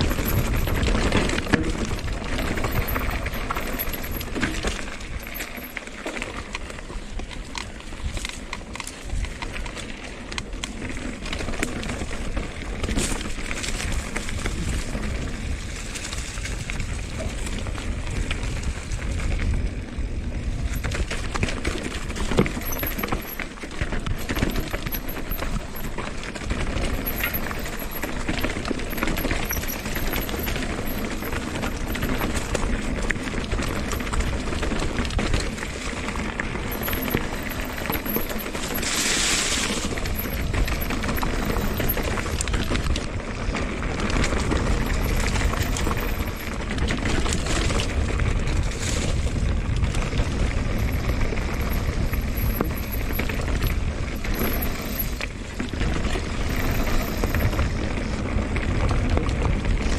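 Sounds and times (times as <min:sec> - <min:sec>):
bike knocking and rattling: 0:00.0 - 0:59.9
bike tyres rolling over rocks: 0:00.0 - 0:59.9.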